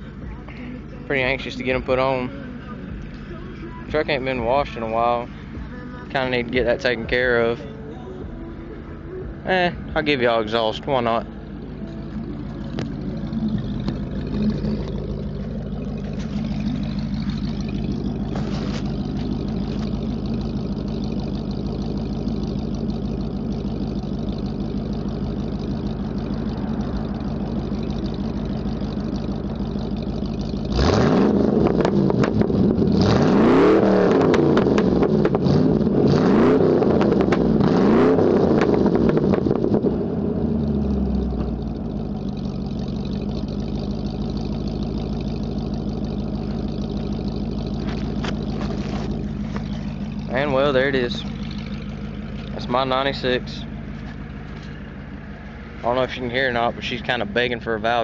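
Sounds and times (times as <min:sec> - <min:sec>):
pickup truck engine idling and revving: 0:00.0 - 0:58.0.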